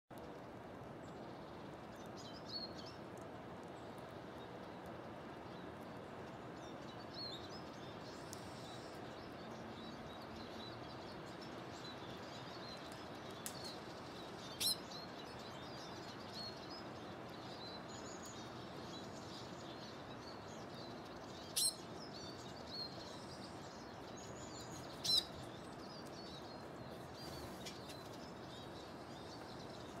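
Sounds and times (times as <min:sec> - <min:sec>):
outdoor background noise: 0:00.1 - 0:30.0
songbirds chirping: 0:00.1 - 0:30.0.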